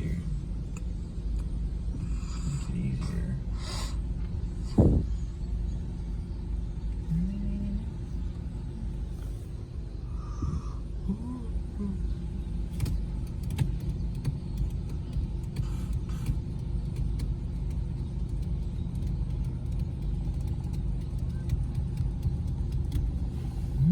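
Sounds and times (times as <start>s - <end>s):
car engine and road rumble: 0.0s - 23.9s.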